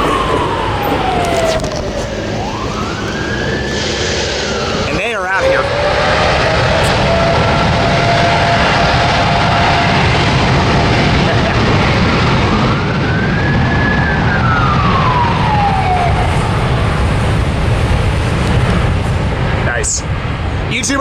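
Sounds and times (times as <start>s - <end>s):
rising and falling tone: 0.0s - 18.0s
jet engines roaring at takeoff: 0.0s - 21.0s.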